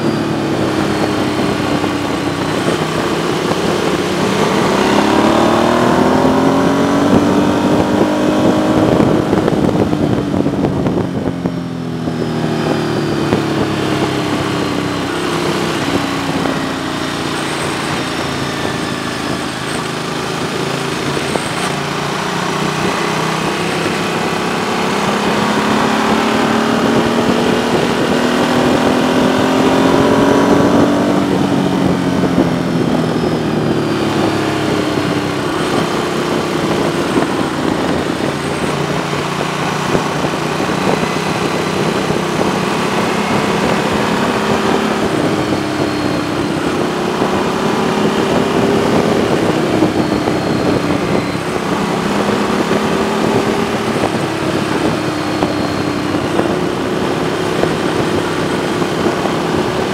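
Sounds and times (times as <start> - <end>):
motorcycle engine: 0.0 - 59.9
wind noise: 0.0 - 59.9.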